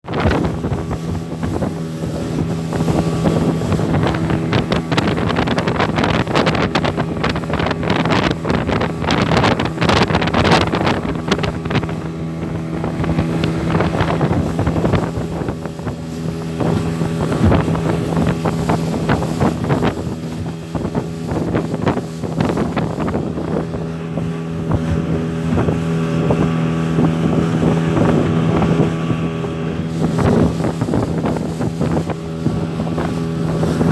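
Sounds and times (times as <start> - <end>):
outboard motor running: 0.0 - 33.9
wind buffeting microphone: 0.0 - 33.9.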